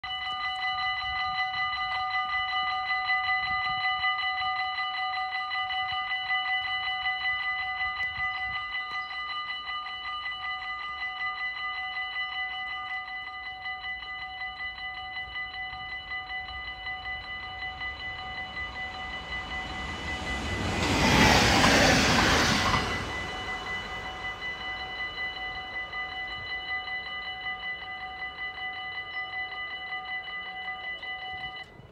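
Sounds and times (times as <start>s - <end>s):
level crossing bell ringing rapidly: 0.1s - 31.9s
passenger train passing: 1.3s - 31.9s.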